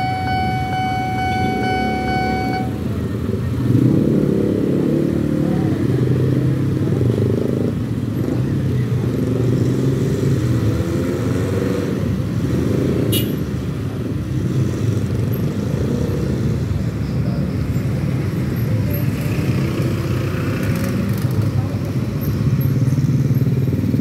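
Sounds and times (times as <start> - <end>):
traffic engines idling and pulling away: 0.0 - 24.0.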